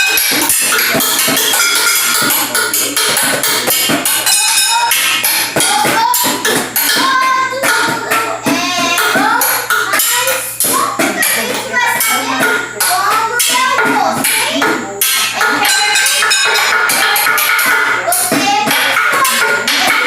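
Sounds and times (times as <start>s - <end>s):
drum beats: 0.0s - 20.0s
voices singing: 0.0s - 20.0s.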